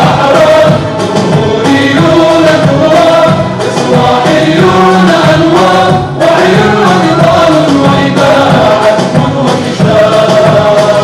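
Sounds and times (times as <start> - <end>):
men singing into microphones: 0.0 - 11.0.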